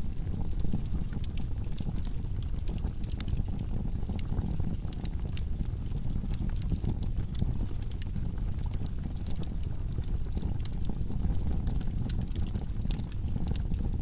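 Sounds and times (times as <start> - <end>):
burning wood crackling and popping: 0.0 - 14.0
fire flames rumbling: 0.0 - 14.0.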